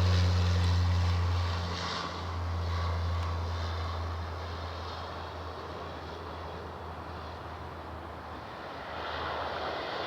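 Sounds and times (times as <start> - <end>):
propeller drone: 0.0 - 10.0.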